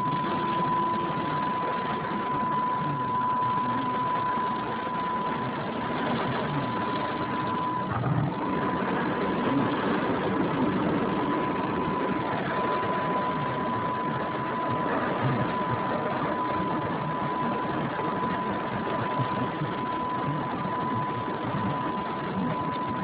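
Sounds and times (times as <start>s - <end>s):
thin high whine: 0.0s - 23.0s.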